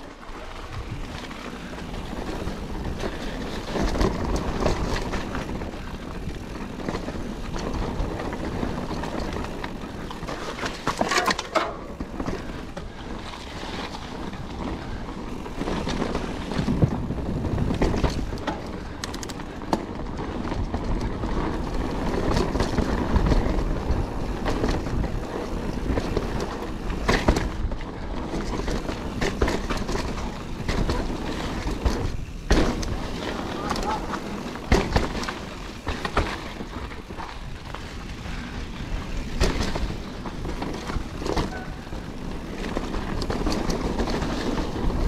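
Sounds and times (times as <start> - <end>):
bike rattling over bumps: 0.0 - 45.0
bike tyres rumbling on dirt: 0.0 - 45.0.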